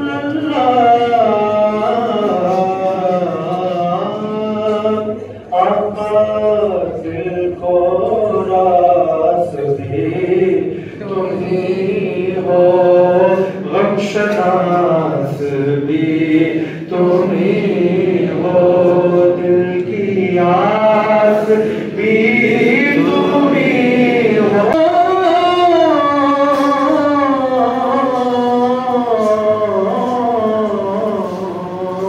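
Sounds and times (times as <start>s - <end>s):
voices chanting slow melody: 0.0s - 32.0s.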